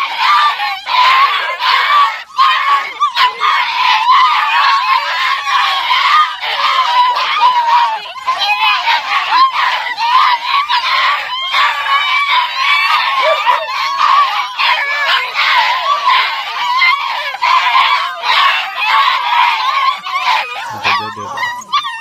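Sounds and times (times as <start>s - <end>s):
puppies howling and yelping: 0.0s - 22.0s.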